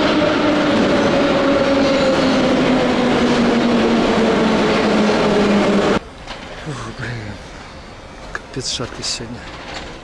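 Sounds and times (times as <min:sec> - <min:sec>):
rumble of wheels on rails: 0:00.0 - 0:10.0
train passing close by: 0:00.0 - 0:10.0.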